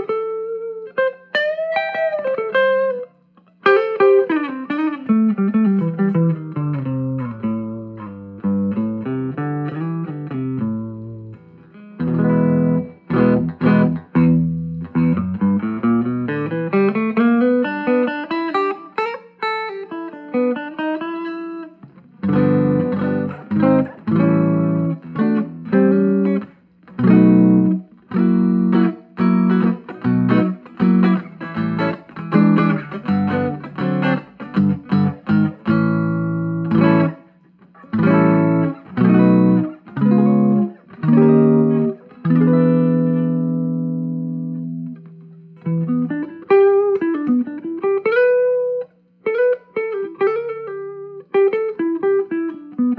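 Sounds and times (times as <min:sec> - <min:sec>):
electric guitar: 0:00.0 - 0:52.9.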